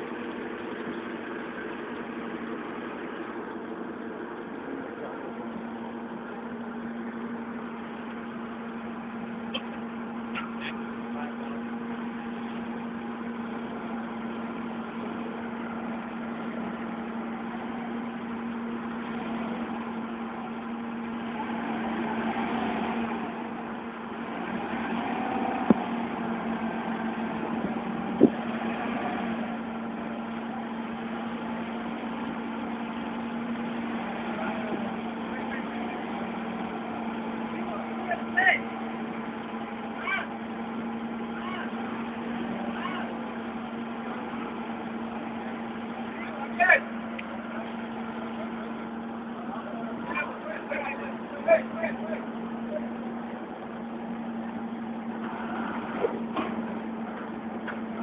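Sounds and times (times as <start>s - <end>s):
forklift engine running: 0.0s - 58.0s.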